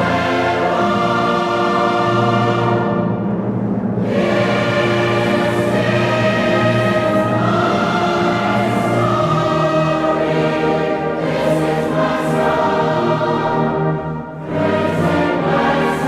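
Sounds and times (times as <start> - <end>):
choir singing with orchestra: 0.0 - 16.0.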